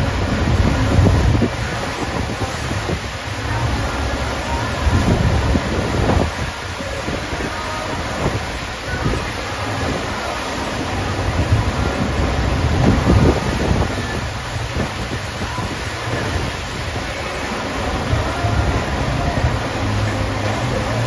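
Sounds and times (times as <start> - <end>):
rushing water: 0.0 - 21.0
wind buffeting microphone: 0.0 - 21.0.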